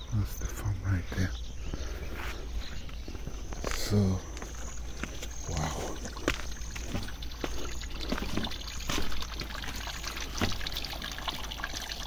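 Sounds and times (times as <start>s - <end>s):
spring water trickling: 1.2s - 12.0s.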